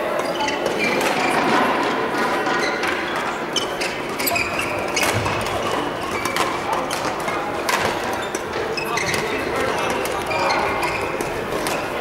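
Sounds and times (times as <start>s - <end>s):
sports hall background noise: 0.0s - 12.0s.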